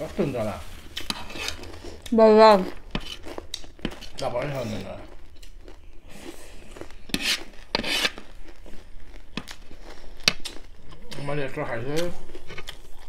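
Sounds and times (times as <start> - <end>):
crunchy chewing: 0.8 - 13.0.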